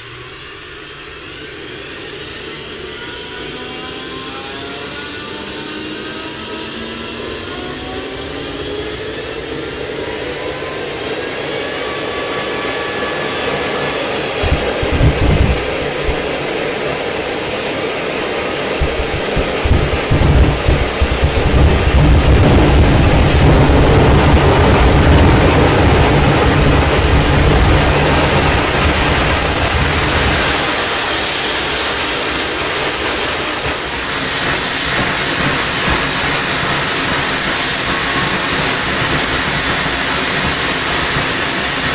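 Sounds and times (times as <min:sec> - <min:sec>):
model turbojet whine and roar: 0:00.0 - 0:41.9.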